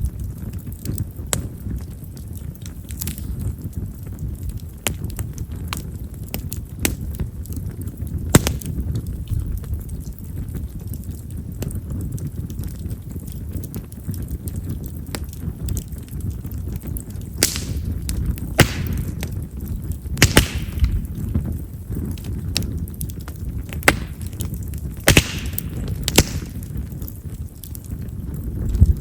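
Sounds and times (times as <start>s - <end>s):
campfire flame rumbling: 0.0s - 29.0s
fire hissing: 0.0s - 29.0s
firewood popping: 0.0s - 29.0s.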